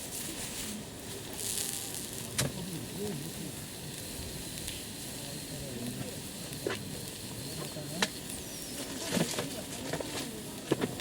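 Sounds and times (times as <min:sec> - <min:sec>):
campfire crackling: 0:00.0 - 0:11.0
fire pop: 0:00.0 - 0:11.0.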